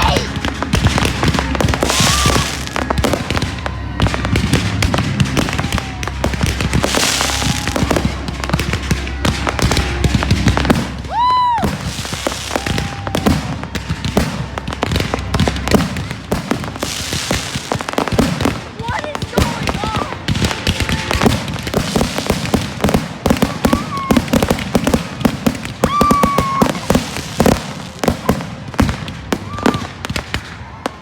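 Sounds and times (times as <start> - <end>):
fireworks crackling and banging: 0.0 - 31.0
whistling rockets: 0.0 - 31.0.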